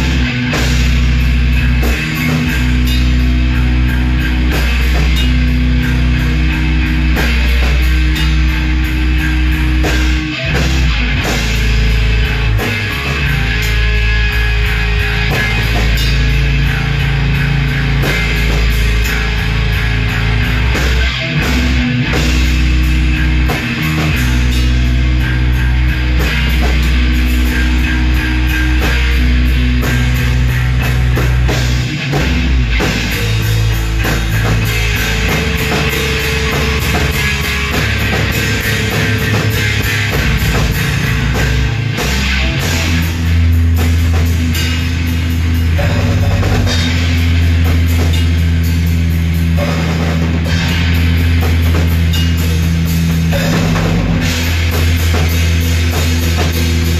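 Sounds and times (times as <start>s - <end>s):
electric guitars: 0.0s - 56.9s
fast drum beats: 0.0s - 56.9s.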